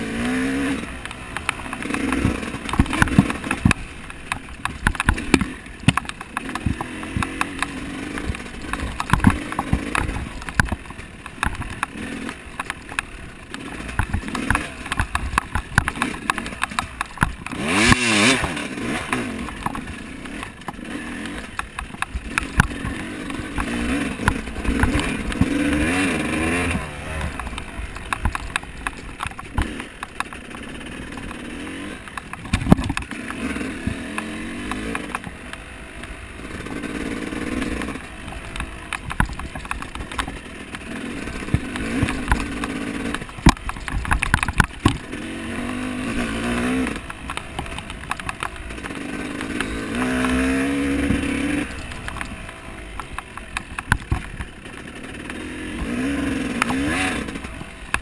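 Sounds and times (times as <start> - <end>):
motorcycle engine revving: 0.0 - 58.0
sharp knocks and clatter: 0.1 - 58.0.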